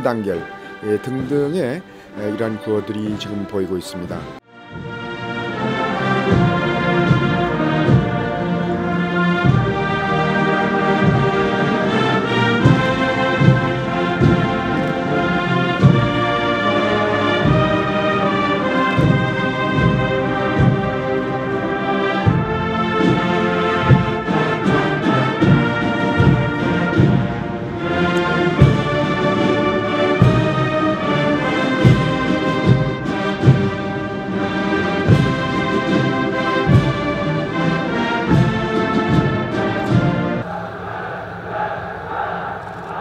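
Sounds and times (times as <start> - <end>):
brass band playing: 0.0 - 42.4
steady drumbeat: 4.7 - 42.3.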